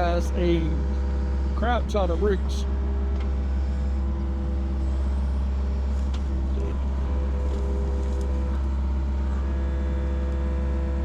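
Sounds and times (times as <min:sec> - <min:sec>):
excavator diesel engine whining: 0:00.0 - 0:11.0.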